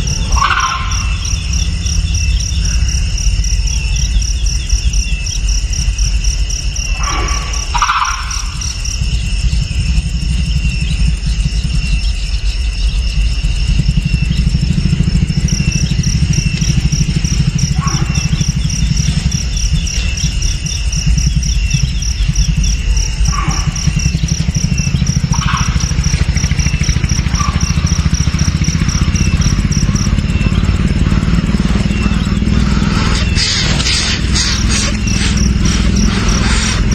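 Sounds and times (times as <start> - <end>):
short calls: 0.0 - 4.8, 6.9 - 36.9
insect trilling: 0.0 - 36.9
low rumble: 0.0 - 36.9.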